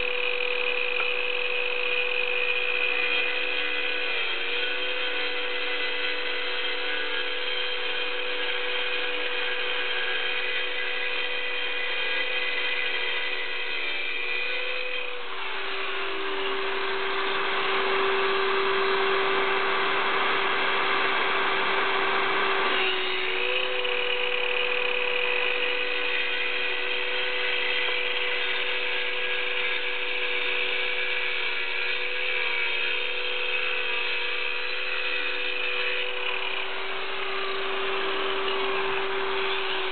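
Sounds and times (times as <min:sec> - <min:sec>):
blade grinding concrete: 0:00.0 - 0:39.9
circular saw whining: 0:00.0 - 0:39.9.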